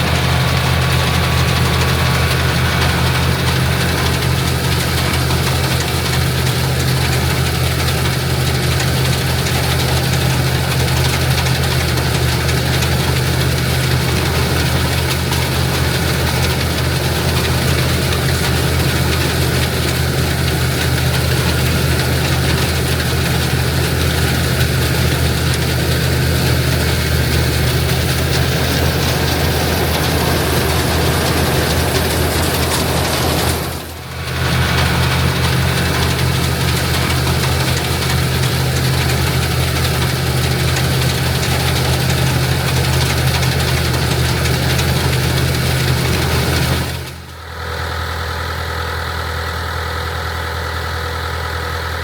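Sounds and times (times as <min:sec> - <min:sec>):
combine machinery running: 0:00.0 - 0:52.0
tractor engine running: 0:00.0 - 0:52.0.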